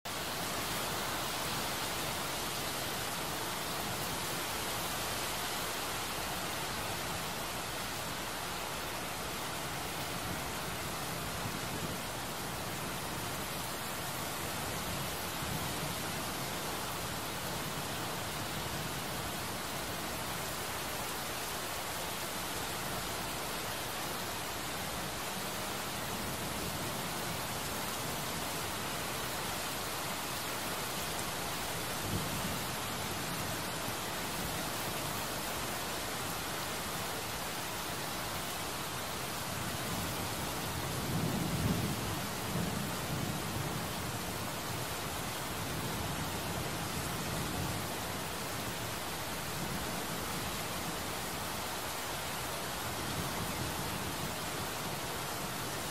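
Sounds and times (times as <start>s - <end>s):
heavy rain on hard surface: 0.0s - 55.9s.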